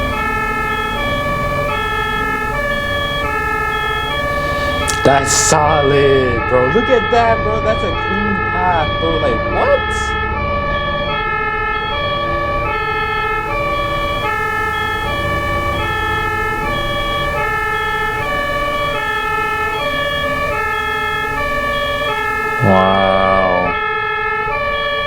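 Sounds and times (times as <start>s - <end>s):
ambulance two-tone siren: 0.0s - 25.0s.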